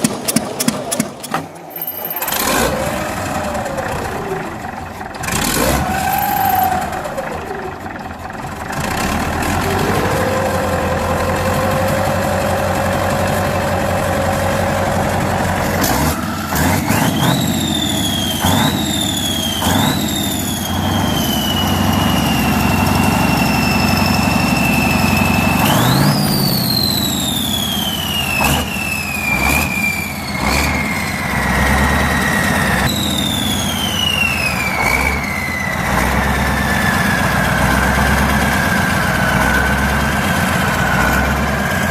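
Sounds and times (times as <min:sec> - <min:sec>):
high engine whine: 0:00.0 - 0:41.9
low engine rumble: 0:00.0 - 0:41.9.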